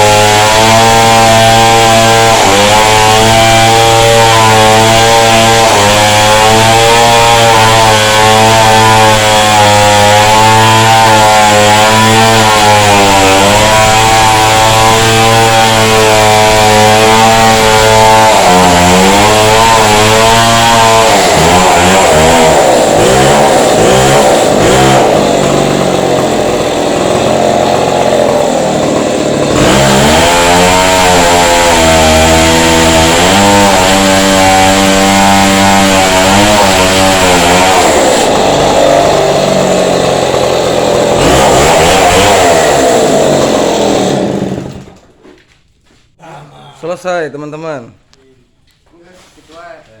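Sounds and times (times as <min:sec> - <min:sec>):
chainsaw cutting into wall: 0:00.0 - 0:45.5.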